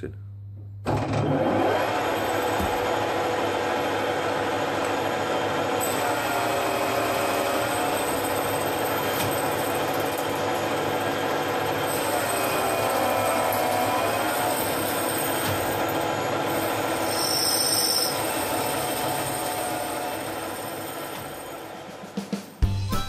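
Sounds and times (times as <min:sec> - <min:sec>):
metal lathe machining: 0:00.9 - 0:21.9.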